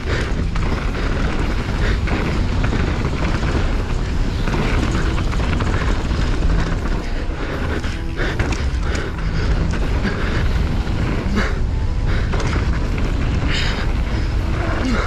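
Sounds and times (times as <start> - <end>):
bike tyres rolling over gravel: 0.0 - 15.0
wind buffeting microphone: 0.0 - 15.0.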